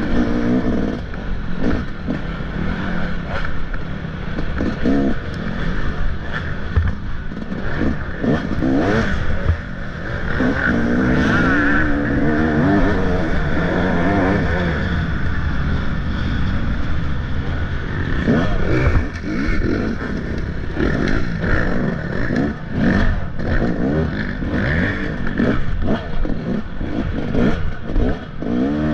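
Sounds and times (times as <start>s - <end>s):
clatter: 0.0s - 12.4s, 17.9s - 28.9s
dirt bike engine revving: 0.0s - 28.9s.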